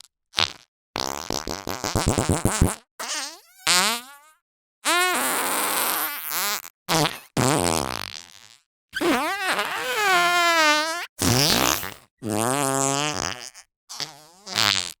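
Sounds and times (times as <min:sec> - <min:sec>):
cartoon fart sounds: 0:00.4 - 0:15.0.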